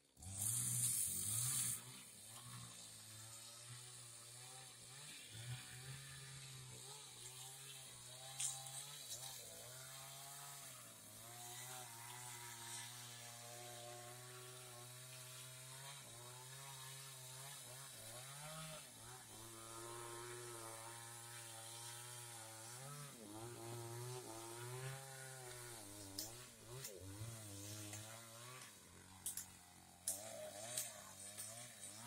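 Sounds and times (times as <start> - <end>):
engine saw cutting wood: 0.0 - 32.0.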